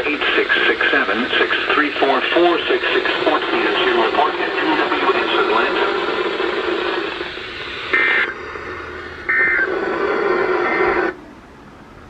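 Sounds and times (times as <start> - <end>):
receiver hiss and hum: 0.0 - 12.0.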